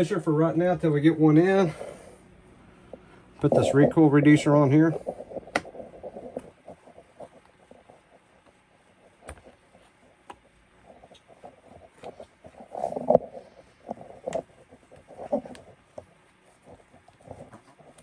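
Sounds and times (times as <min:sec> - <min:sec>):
rubber rubbing against plastic: 0:03.4 - 0:18.0.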